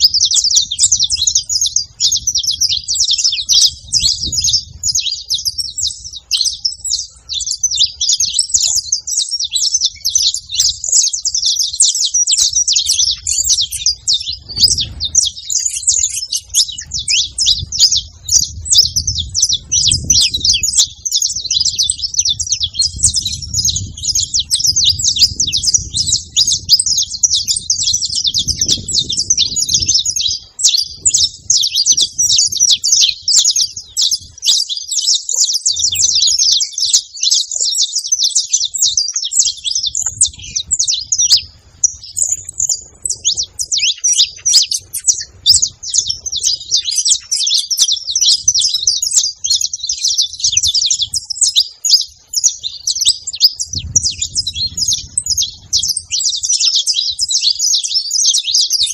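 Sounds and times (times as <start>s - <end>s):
finches chirping and singing: 0.0s - 58.9s.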